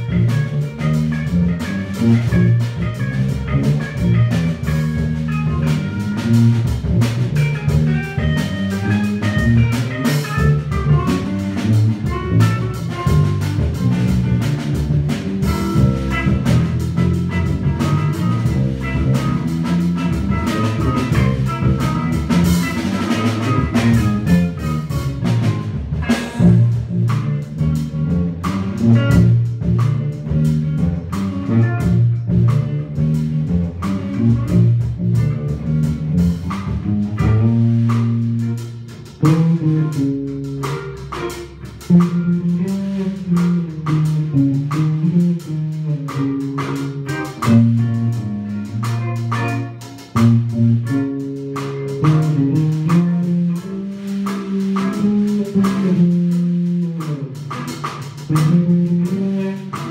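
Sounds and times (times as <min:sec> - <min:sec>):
drum kit: 0:00.0 - 0:59.9
electric bass guitar: 0:00.0 - 0:59.9
electric guitar: 0:00.0 - 0:59.9.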